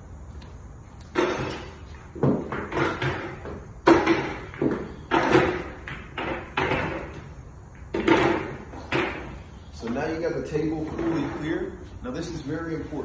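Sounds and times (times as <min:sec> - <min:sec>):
pool balls clacking: 0:01.0 - 0:11.8.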